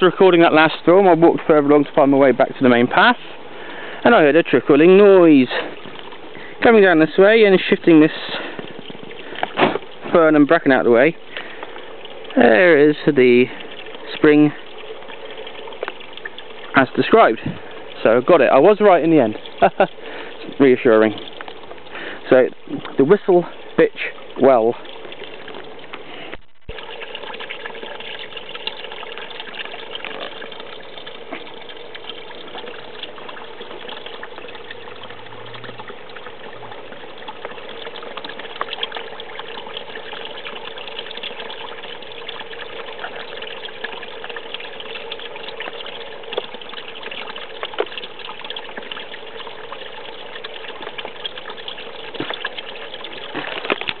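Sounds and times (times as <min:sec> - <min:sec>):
small water splashes: 0:00.0 - 0:54.0
water trickling into a channel: 0:00.0 - 0:54.0.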